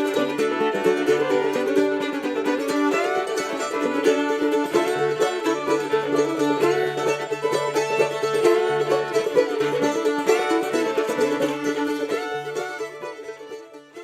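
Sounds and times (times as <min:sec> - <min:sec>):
fiddle: 0:00.0 - 0:14.0
plucked banjo or mandolin: 0:00.0 - 0:14.0.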